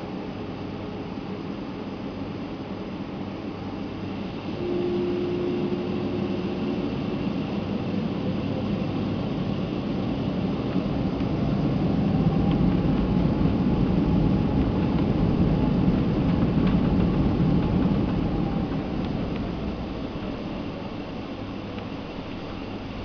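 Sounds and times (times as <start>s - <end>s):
jet engines heard from cabin: 0.0s - 23.0s.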